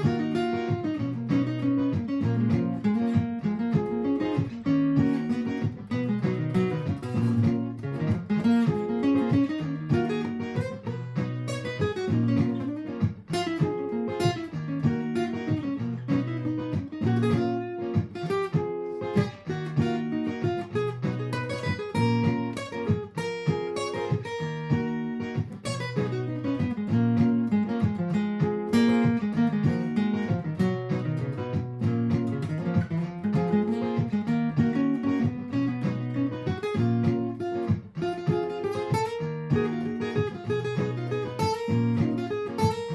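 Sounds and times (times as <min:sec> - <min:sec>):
looped strummed acoustic guitar: 0:00.0 - 0:42.9
picked guitar notes: 0:00.0 - 0:42.9.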